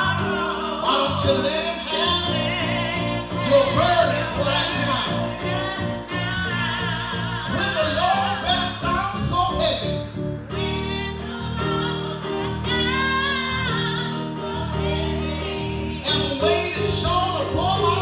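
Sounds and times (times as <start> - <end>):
singing with vibrato: 0.0 - 9.8, 10.6 - 18.0
held instrumental chords: 0.0 - 18.0.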